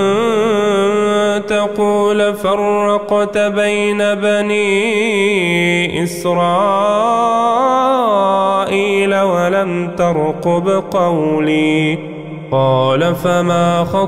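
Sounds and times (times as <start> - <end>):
man chanting melodic recitation: 0.0 - 14.0.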